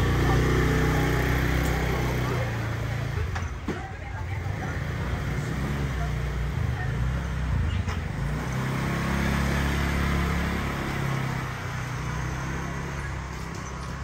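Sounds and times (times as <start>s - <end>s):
road traffic: 0.0s - 14.0s
vehicle engine running close by: 0.0s - 14.0s.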